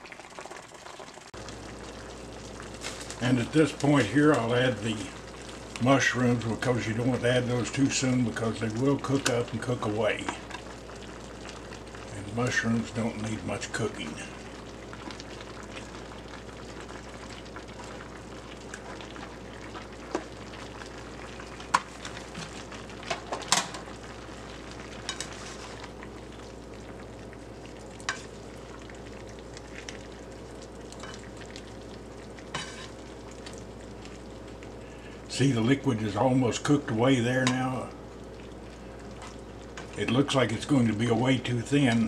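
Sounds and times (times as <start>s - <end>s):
food sizzling in a wok: 0.0s - 42.0s.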